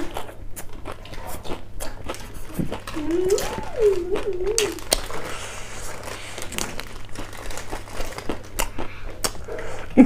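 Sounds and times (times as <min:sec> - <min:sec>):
chewing crunchy leafy greens: 0:00.0 - 0:10.0.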